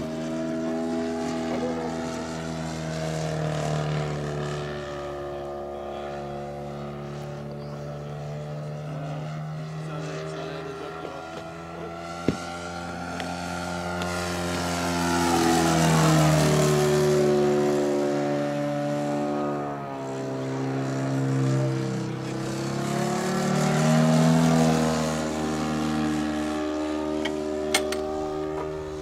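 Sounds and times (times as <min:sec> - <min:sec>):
model plane engine passing: 0:00.0 - 0:29.0.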